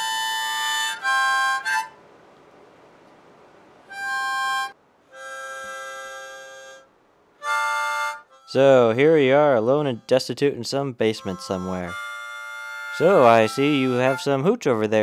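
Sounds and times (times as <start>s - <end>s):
harmonica chords: 0.0s - 2.0s, 3.9s - 15.0s.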